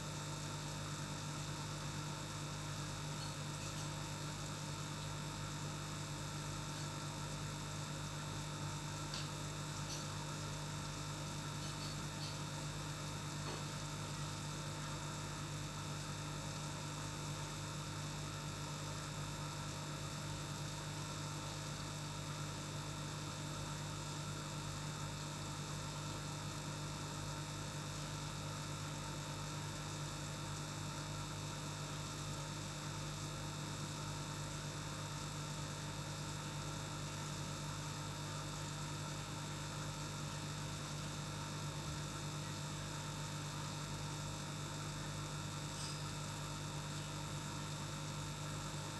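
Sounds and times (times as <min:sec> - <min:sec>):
aquarium air pump humming: 0:00.0 - 0:48.9.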